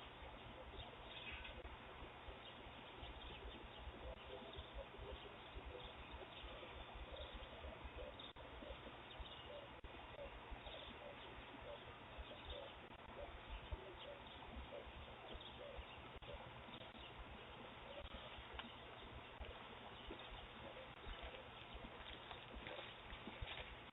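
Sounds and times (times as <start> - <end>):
bird chirps: 2.3 - 23.7.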